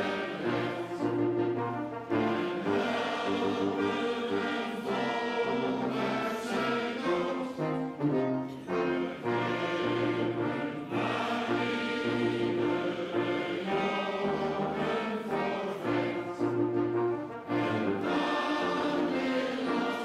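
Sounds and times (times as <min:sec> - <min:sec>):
brass quintet: 0:00.0 - 0:20.0
men's choir singing a march: 0:00.0 - 0:20.0.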